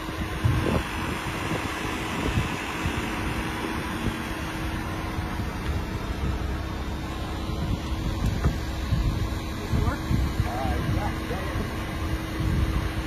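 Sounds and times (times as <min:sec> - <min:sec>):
steady mechanical hum: 0:00.0 - 0:13.0
wind buffeting microphone: 0:00.0 - 0:13.0.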